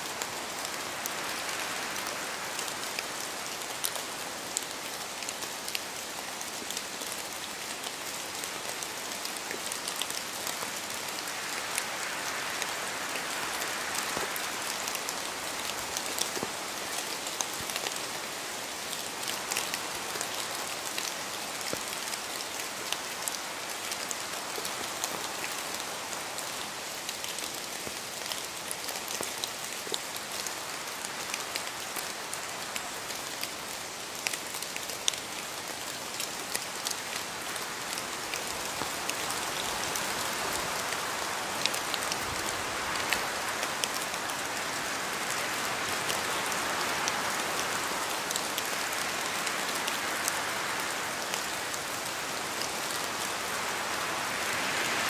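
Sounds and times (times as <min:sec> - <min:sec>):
rain on a surface: 0:00.0 - 0:55.0.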